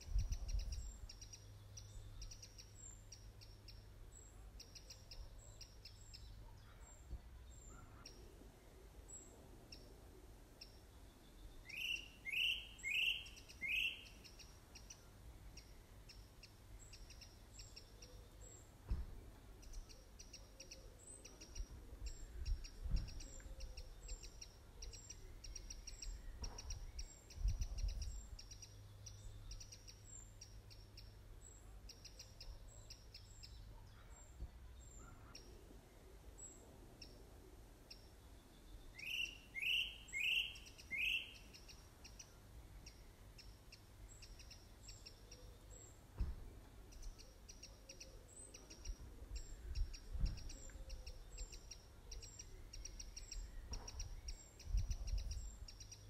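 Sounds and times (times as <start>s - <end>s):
birds chirping: 10.6s - 56.0s.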